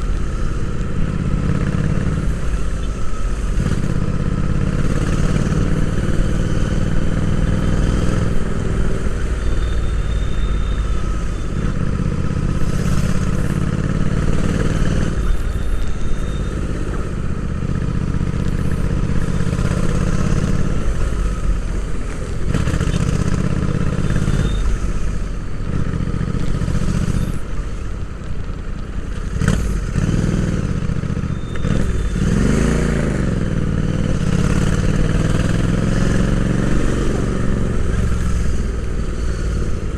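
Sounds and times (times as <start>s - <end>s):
motorcycle engine revving: 0.0s - 27.5s, 29.1s - 39.9s.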